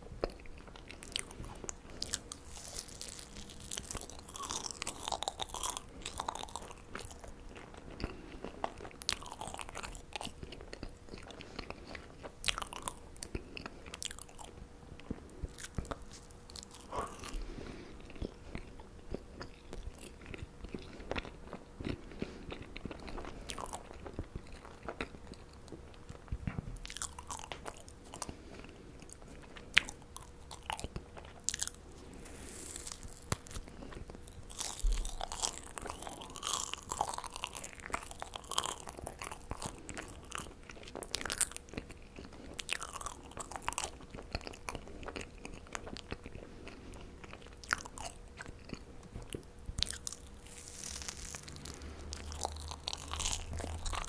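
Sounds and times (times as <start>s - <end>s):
marshmallows being chewed: 0.0s - 54.0s.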